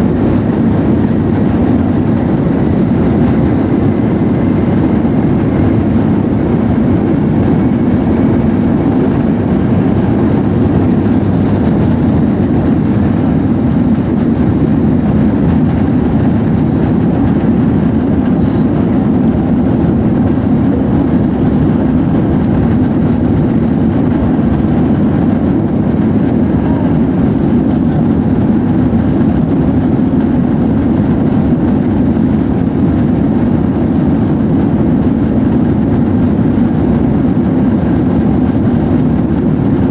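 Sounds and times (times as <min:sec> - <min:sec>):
jet engine and airflow noise in cabin: 0:00.0 - 0:39.9.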